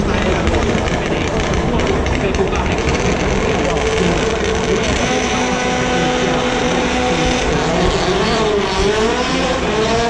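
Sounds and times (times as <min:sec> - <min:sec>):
rally car engine at high revs: 0:00.0 - 0:10.0.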